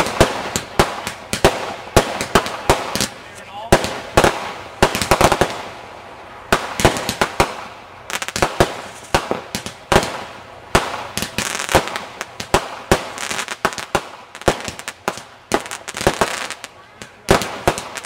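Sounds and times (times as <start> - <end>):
fireworks bangs and pops: 0.0 - 5.9, 6.5 - 18.0.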